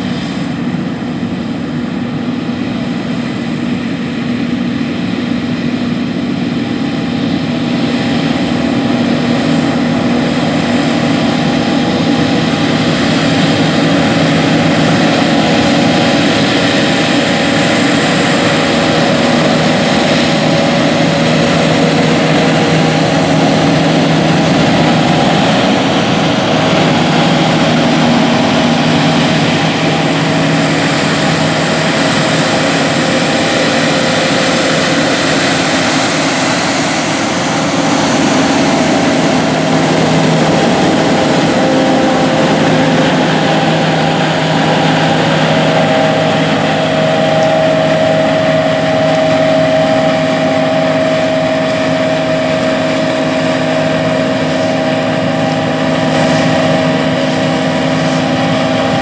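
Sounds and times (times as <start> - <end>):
diesel engine drone: 0.0 - 59.0
machine humming tones: 0.0 - 59.0
rushing noise of threshing: 0.0 - 59.0.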